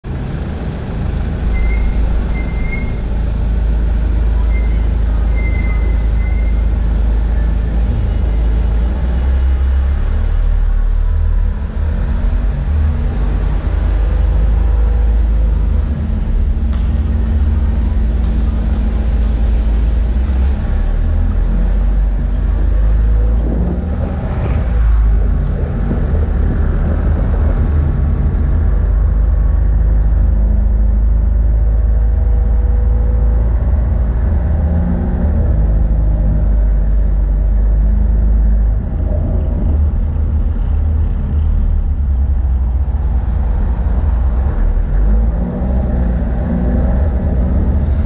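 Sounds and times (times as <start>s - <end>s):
vehicle rumble: 0.0s - 48.0s.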